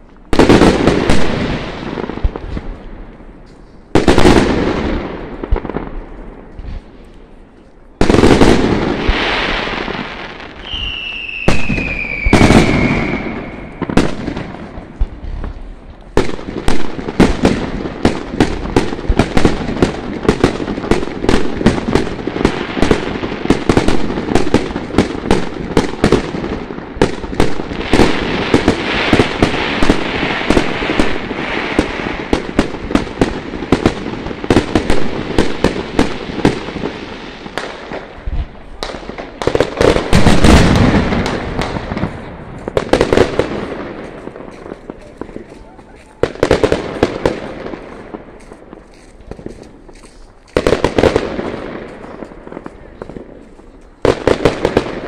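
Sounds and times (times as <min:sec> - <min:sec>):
firework crackling hiss: 0:08.0 - 0:55.0.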